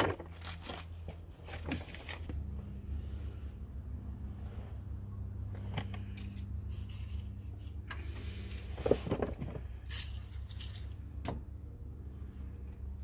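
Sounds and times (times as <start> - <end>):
low hum: 0.1 - 13.0.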